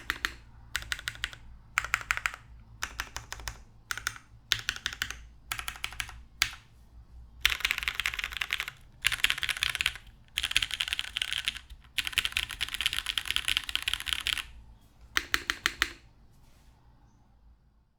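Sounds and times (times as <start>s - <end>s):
mechanical keyboard typing: 0.0s - 6.7s, 7.4s - 16.1s.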